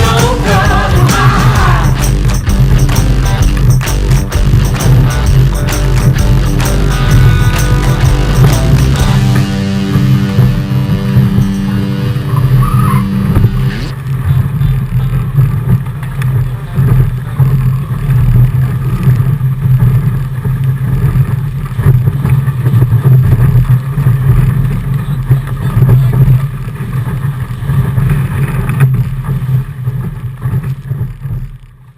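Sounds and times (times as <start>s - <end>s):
wind and water rumble: 0.0s - 31.9s.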